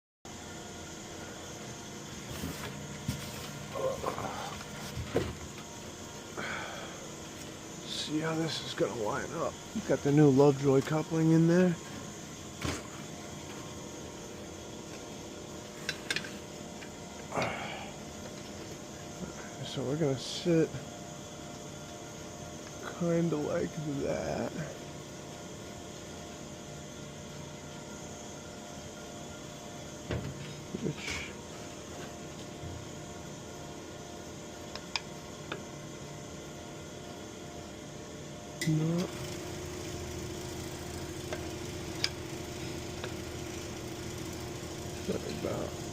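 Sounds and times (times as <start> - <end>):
steady background hum: 0.3 - 45.9.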